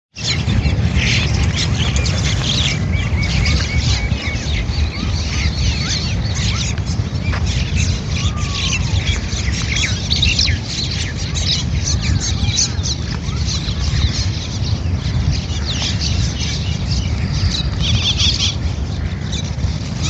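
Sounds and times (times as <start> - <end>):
small birds chirping: 0.1 - 20.0
steady low rumble: 0.2 - 20.0.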